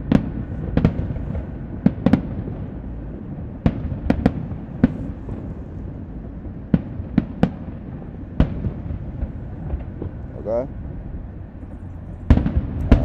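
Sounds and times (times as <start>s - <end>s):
fireworks sharp bangs: 0.0s - 13.0s
low rumble of fireworks: 0.0s - 13.0s.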